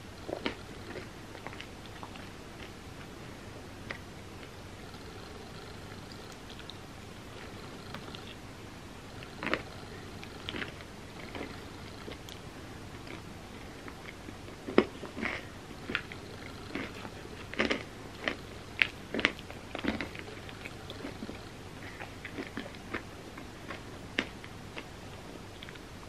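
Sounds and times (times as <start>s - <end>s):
chewing: 0.2s - 3.2s, 3.8s - 8.4s, 9.2s - 25.9s.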